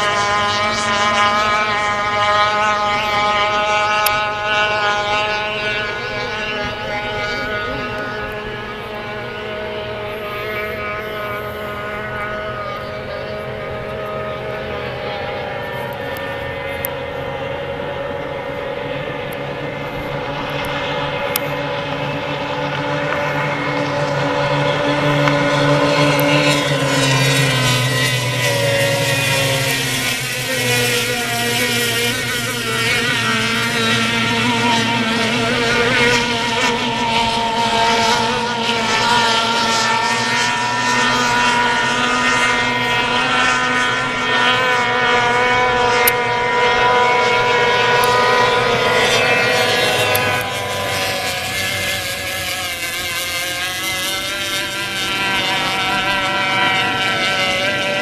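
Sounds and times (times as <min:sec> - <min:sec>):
racing boat engines whining: 0:00.0 - 0:58.0.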